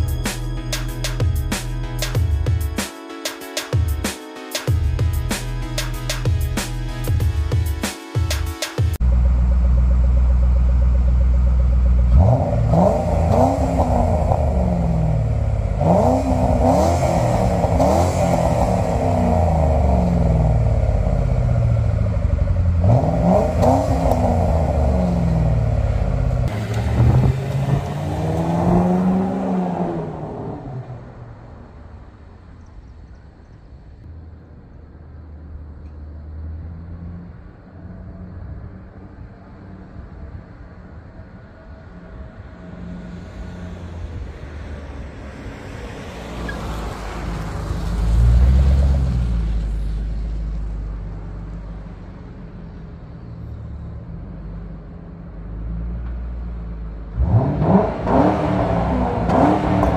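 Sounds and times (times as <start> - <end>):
car engine accelerating: 9.0 - 59.9.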